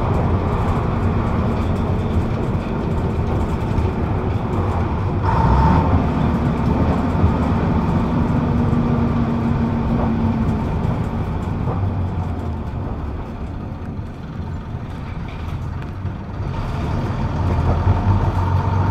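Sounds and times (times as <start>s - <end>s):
bus diesel engine running: 0.0s - 18.9s
road noise: 0.0s - 18.9s.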